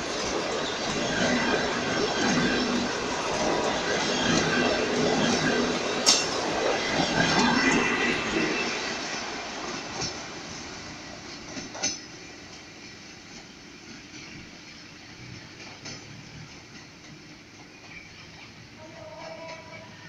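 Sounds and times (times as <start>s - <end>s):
train wheels clattering on rails: 0.0s - 20.0s.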